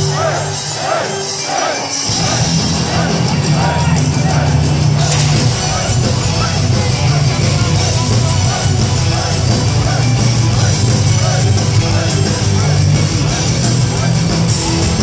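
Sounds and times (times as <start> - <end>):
heavy metal band playing live: 0.0 - 15.0.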